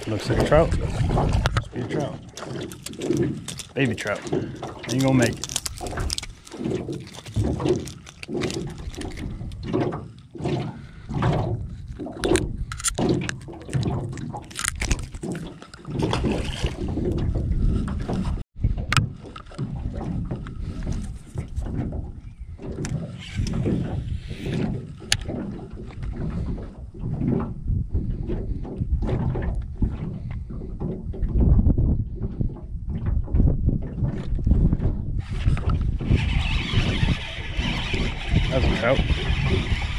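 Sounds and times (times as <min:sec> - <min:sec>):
waves slapping against boat hull: 0:00.0 - 0:39.9
wind buffeting microphone: 0:00.0 - 0:39.9.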